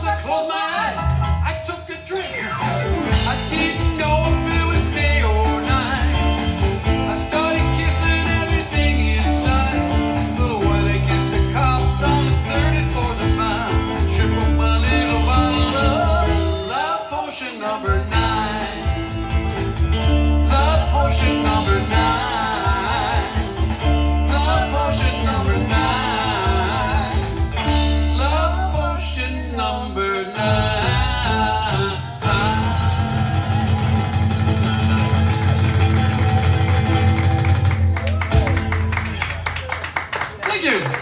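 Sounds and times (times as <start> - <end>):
live rock band playing: 0.0 - 39.9
guitar bending lead lines: 2.4 - 17.0, 17.9 - 29.1, 29.7 - 38.9.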